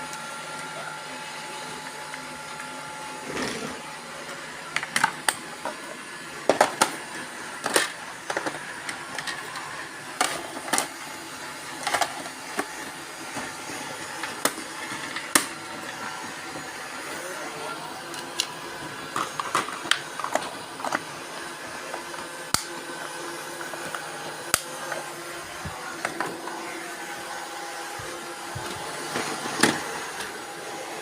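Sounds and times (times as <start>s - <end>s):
robot vacuum cleaners whirring: 0.0s - 31.0s.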